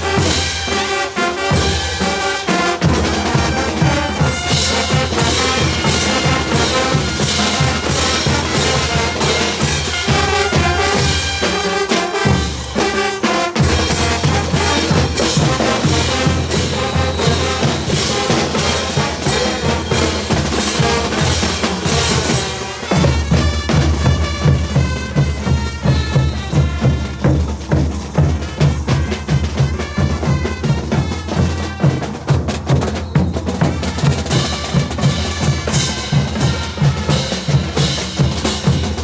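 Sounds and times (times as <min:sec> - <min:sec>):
brass band playing: 0:00.0 - 0:39.0.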